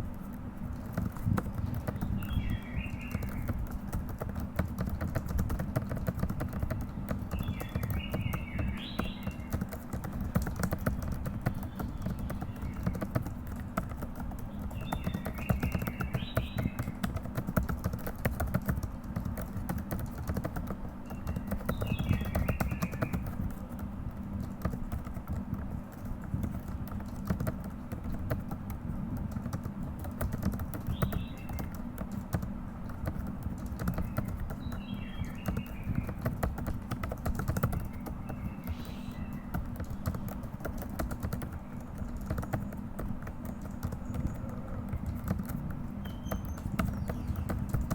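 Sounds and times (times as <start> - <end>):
fast typing on keyboard: 0.0 - 47.9.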